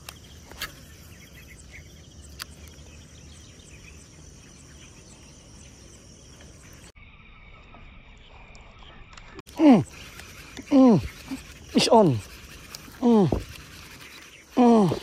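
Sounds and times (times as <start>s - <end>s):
crickets buzzing: 0.0s - 15.0s.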